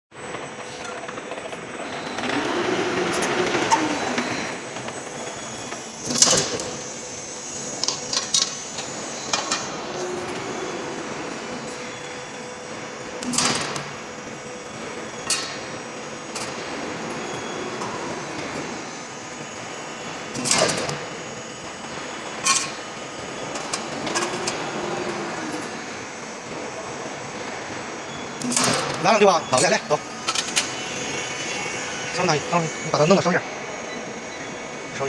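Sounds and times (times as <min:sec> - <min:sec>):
roll forming machine humming: 0:00.1 - 0:35.0.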